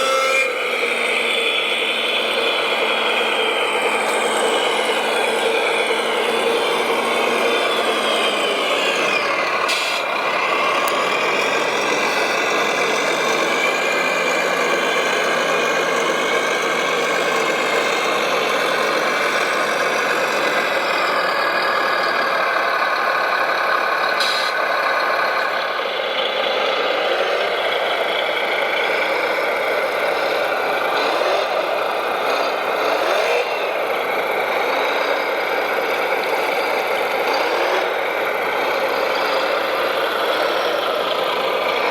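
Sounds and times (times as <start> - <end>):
toy construction vehicles whining: 0.0 - 41.9.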